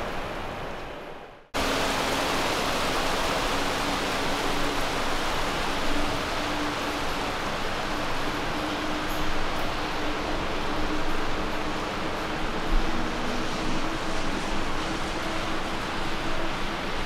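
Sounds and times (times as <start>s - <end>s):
jet engine noise: 1.6s - 17.0s.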